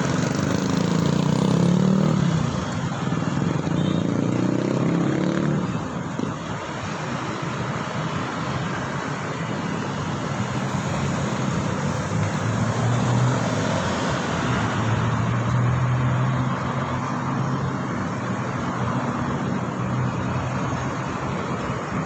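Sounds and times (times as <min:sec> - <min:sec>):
road and traffic rush: 0:00.0 - 0:22.0.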